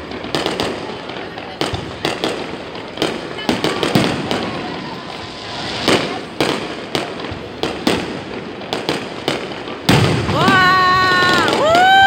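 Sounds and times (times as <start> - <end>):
background noise: 0.0 - 12.0
fireworks bursting: 0.0 - 12.0.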